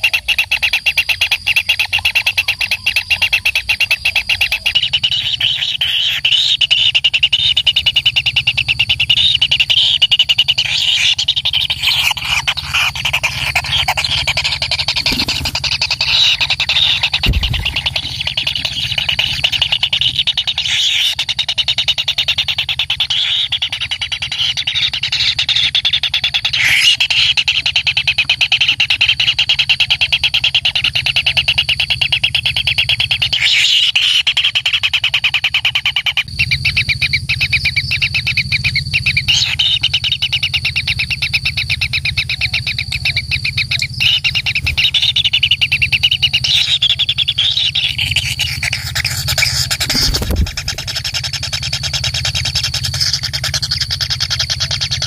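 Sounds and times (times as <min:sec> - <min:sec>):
low steady hum: 0:00.0 - 0:26.5, 0:36.2 - 0:55.0
nestlings rasping begging calls: 0:00.0 - 0:30.8, 0:32.9 - 0:55.0.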